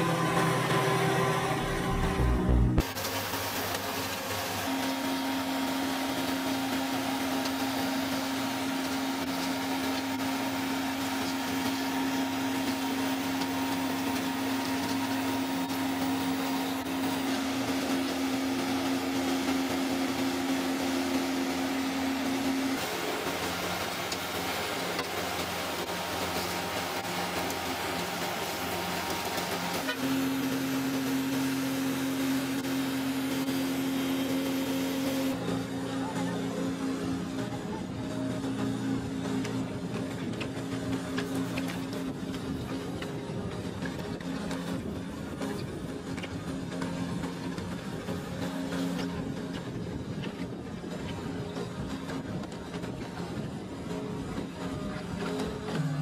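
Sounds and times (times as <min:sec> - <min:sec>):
curb machine humming and whining: 0:00.0 - 0:56.0.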